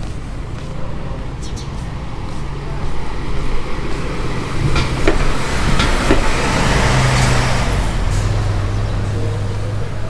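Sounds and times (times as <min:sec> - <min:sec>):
road and wind noise hiss: 0:00.0 - 0:10.0
vehicle engine hum: 0:00.0 - 0:10.0.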